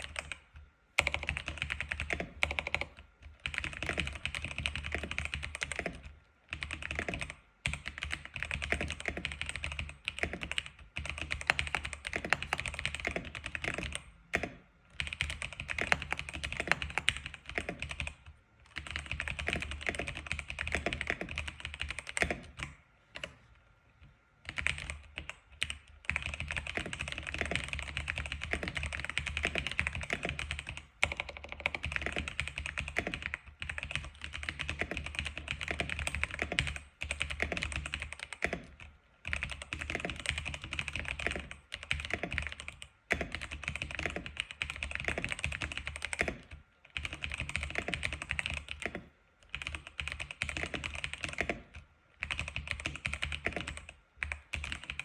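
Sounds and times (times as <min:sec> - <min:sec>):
keyboard typing clicks: 0:00.0 - 0:23.4, 0:24.5 - 0:55.0.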